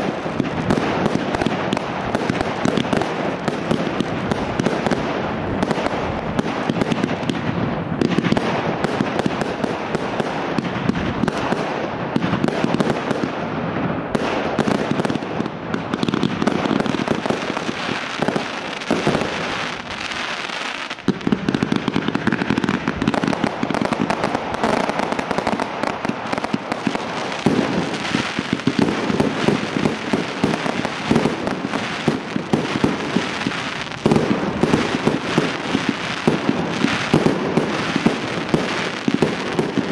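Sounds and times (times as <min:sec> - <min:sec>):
fireworks barrage: 0:00.0 - 0:39.9.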